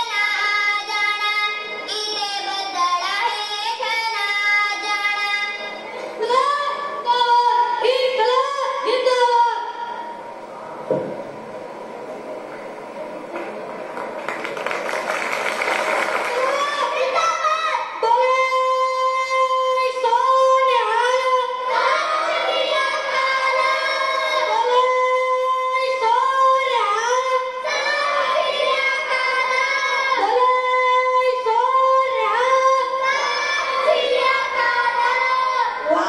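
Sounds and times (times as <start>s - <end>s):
children singing through tv speaker: 0.0s - 9.2s, 16.4s - 36.0s.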